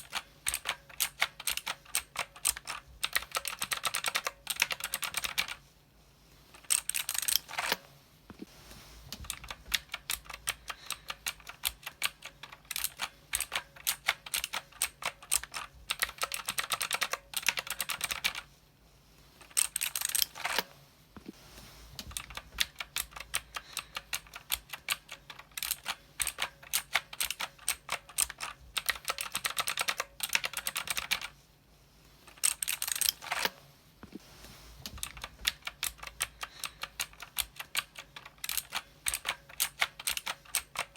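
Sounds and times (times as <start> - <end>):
mechanical keyboard typing: 0.0 - 5.6, 6.6 - 7.8, 9.2 - 18.5, 19.4 - 20.7, 22.0 - 31.3, 32.3 - 33.6, 34.9 - 40.9.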